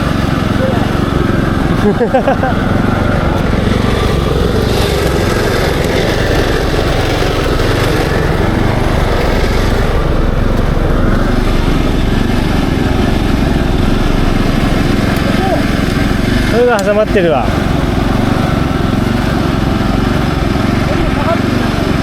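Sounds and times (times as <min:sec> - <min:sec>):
small engine running steadily: 0:00.0 - 0:22.0.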